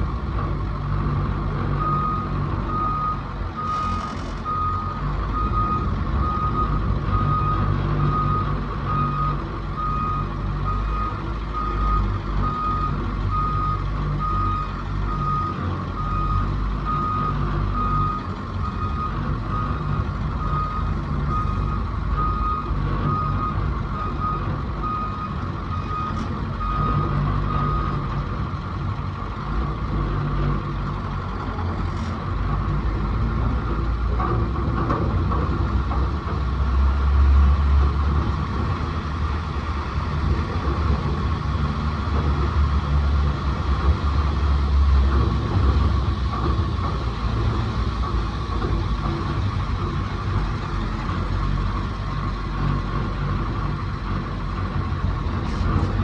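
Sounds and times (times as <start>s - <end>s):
heavy vehicle diesel engine running: 0.0s - 56.0s.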